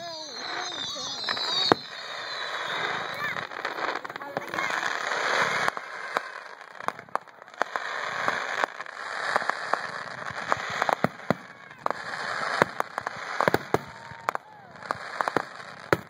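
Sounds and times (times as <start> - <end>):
fireworks bangs and pops: 0.0 - 16.0
fireworks crackling hiss: 0.0 - 16.0.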